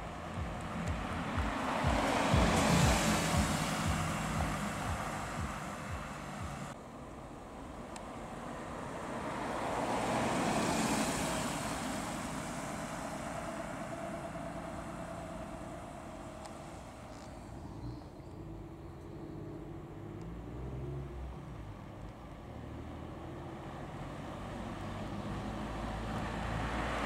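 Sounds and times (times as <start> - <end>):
car engine driving past: 0.0 - 6.8, 8.2 - 27.0
another car engine rumble: 0.0 - 27.0.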